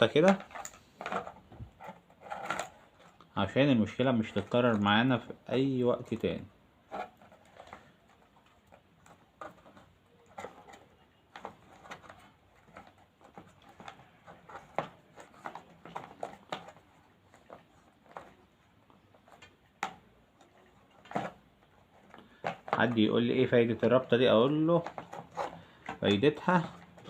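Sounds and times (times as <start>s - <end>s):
faint clicks and rustles of handling: 0.0s - 27.0s.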